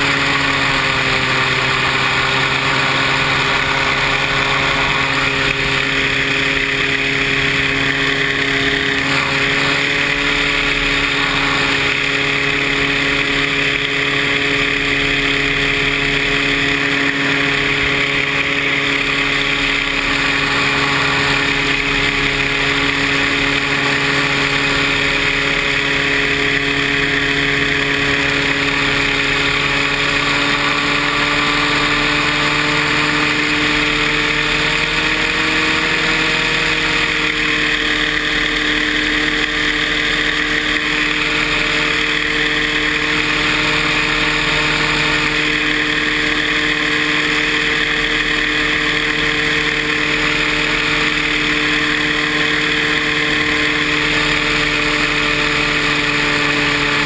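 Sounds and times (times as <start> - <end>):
paramotor engine and propeller: 0.0 - 57.0.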